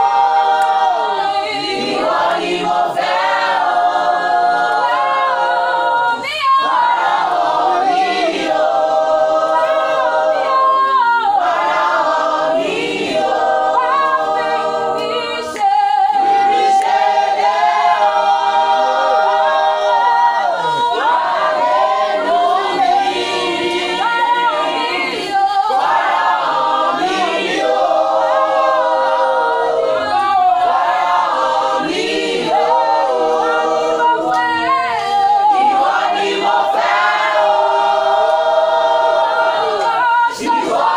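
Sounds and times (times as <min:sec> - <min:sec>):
a cappella choir singing: 0:00.0 - 0:40.9.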